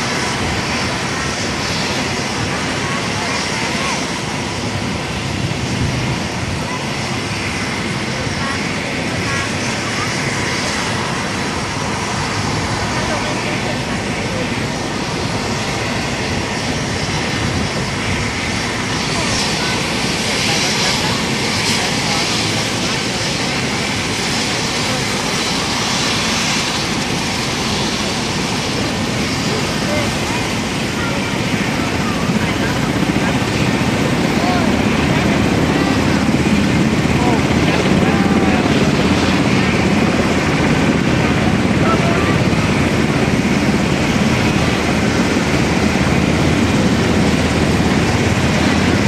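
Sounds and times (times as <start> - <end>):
helicopter engines running: 0.0 - 49.0.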